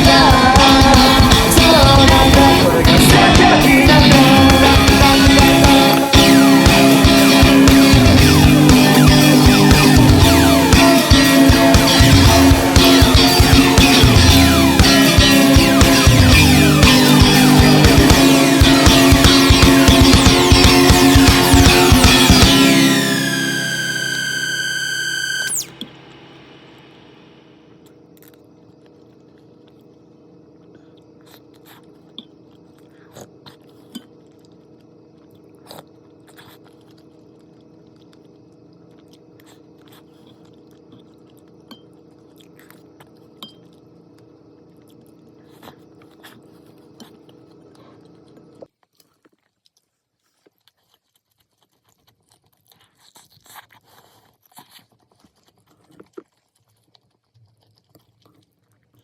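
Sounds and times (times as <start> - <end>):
person chewing and crunching food: 0.0 - 25.7, 27.6 - 59.0
background hum: 0.0 - 59.0.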